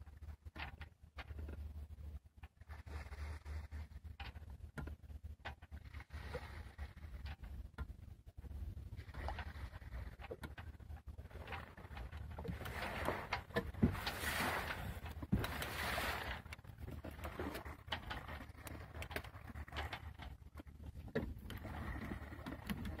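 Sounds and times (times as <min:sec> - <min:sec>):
low steady rumble: 0:00.0 - 0:23.0
water splashing against hull: 0:00.0 - 0:23.0.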